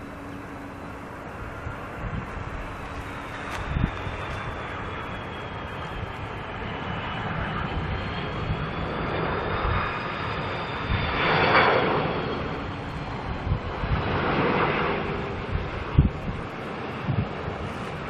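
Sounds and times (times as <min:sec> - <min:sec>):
jet engine rush: 0:00.0 - 0:18.0
jet engine whine: 0:00.0 - 0:18.0.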